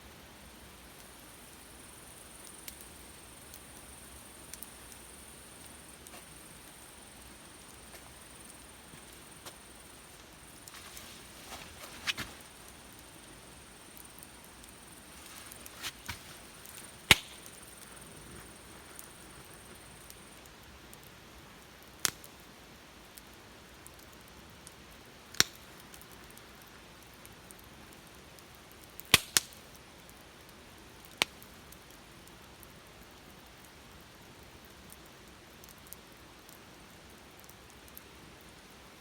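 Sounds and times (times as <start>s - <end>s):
faint steady hiss: 0.0s - 39.0s
wood fire crackling: 0.1s - 39.0s.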